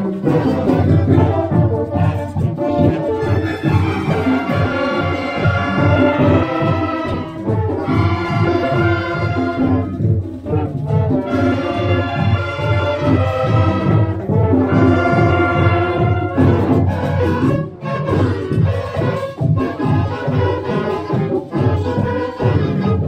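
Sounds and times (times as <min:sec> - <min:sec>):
brass instruments melody: 0:00.0 - 0:23.0
steady drum beat: 0:00.0 - 0:23.0.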